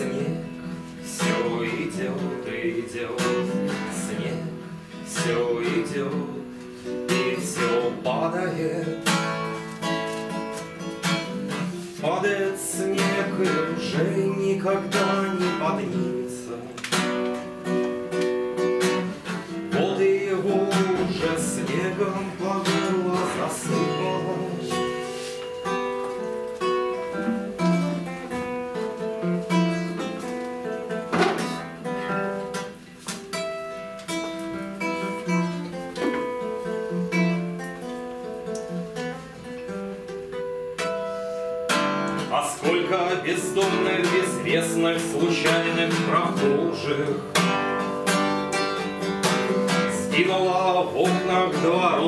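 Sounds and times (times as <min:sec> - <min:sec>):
classical guitar fingerpicking: 0:00.0 - 0:52.0.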